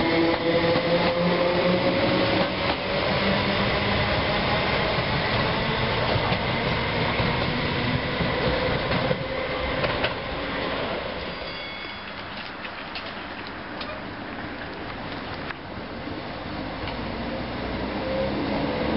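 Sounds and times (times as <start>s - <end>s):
train wheels rumbling and rattling: 0.0s - 17.2s.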